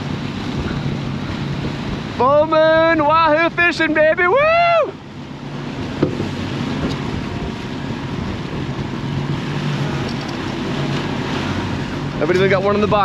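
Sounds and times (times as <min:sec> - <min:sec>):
churning wake rushing: 0:00.0 - 0:13.0
outboard motors humming: 0:00.0 - 0:13.0
wind on microphone: 0:00.0 - 0:13.0.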